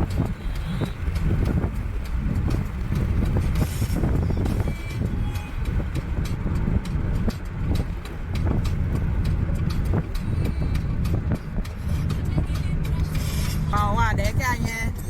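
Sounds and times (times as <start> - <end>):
knocks and rattles over bumps: 0.0 - 15.0
vehicle engine and tyres rumbling: 0.0 - 15.0.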